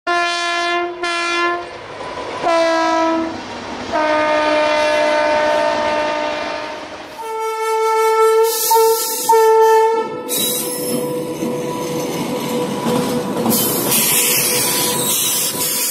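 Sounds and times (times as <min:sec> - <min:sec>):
train horn blasts: 0:00.1 - 0:01.7, 0:02.4 - 0:15.9
higher horn tone: 0:02.4 - 0:15.4.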